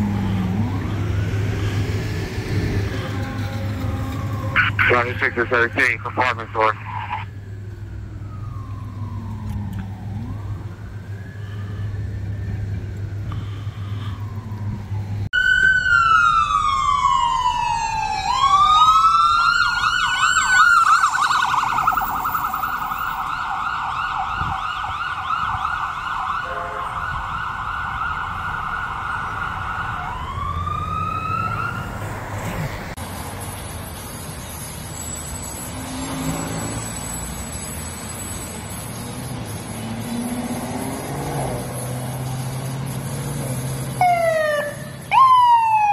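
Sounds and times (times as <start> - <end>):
emergency siren wailing and yelping: 0.0 - 33.0, 35.0 - 45.9.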